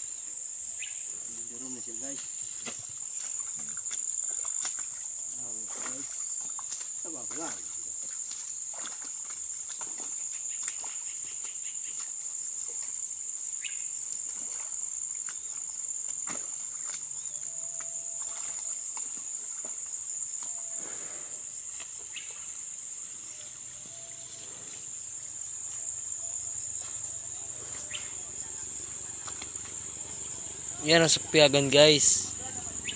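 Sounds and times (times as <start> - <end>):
insects droning: 0.0 - 32.9
footsteps in grass and mud: 2.1 - 20.8, 21.5 - 30.7.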